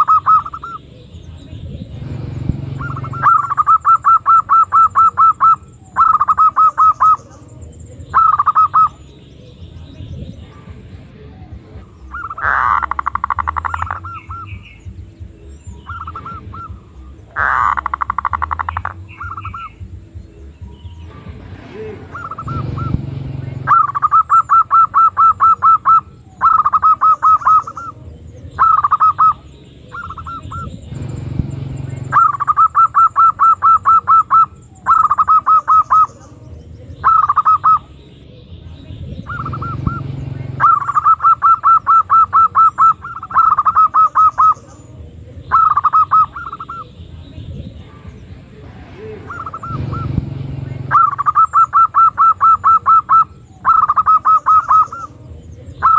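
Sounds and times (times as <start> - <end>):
dove calling rapid notes: 0.0 - 10.2, 11.4 - 38.2, 38.9 - 55.9.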